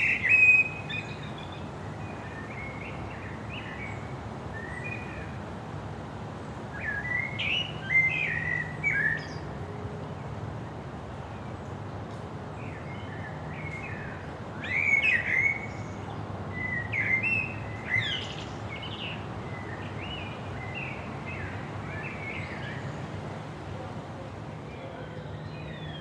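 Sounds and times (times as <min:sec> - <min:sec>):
outdoor background hiss: 0:00.0 - 0:26.0
songbirds chirping: 0:00.0 - 0:26.0.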